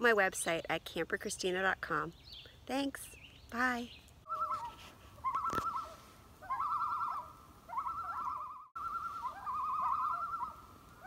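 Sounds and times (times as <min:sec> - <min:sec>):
bird calling in wavering phrases: 0:02.1 - 0:11.0.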